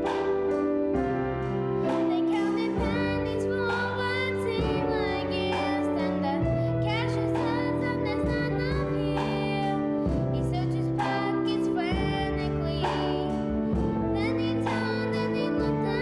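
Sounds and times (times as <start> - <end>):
sustained instrumental chords: 0.0 - 14.7.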